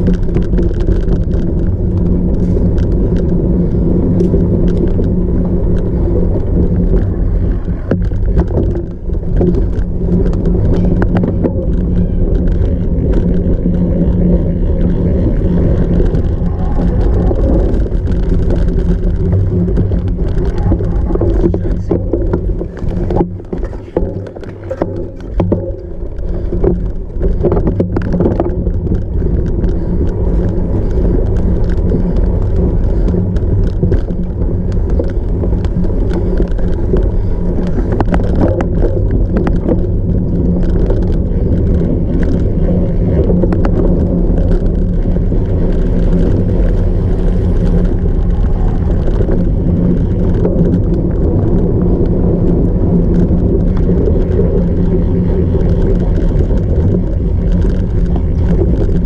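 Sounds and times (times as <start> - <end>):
bike riding rumble: 0.0 - 59.0
small rattles and clicks: 0.0 - 59.0.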